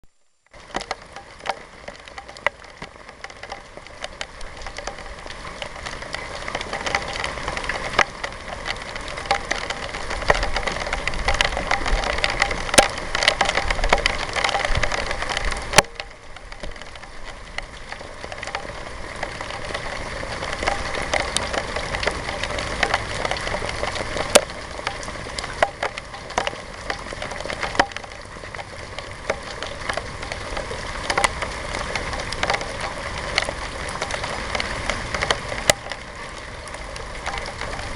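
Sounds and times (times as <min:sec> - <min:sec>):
rain drops hitting a surface: 0:00.0 - 0:37.9
rain patter: 0:00.0 - 0:37.9.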